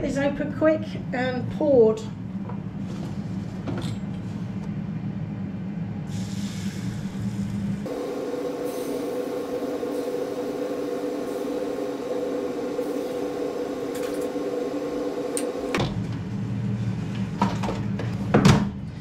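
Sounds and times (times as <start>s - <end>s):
air fryer fan humming: 0.0s - 18.6s.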